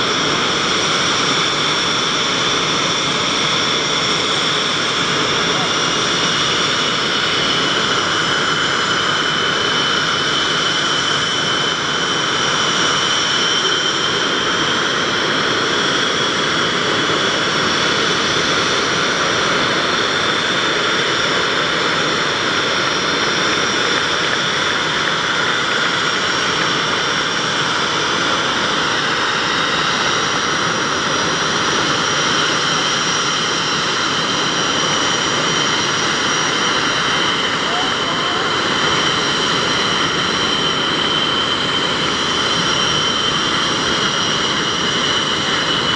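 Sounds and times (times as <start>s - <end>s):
jet engines idling: 0.0s - 45.9s.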